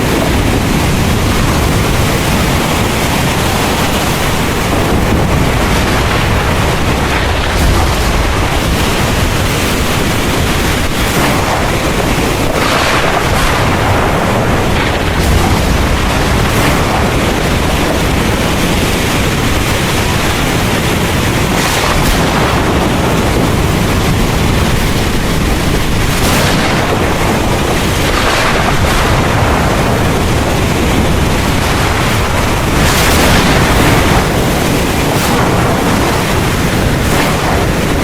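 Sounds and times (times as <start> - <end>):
heavy rain: 0.0 - 38.0
low thunder rumble: 0.0 - 38.0
thunder bursts: 0.0 - 38.0
wind gusts: 0.0 - 38.0.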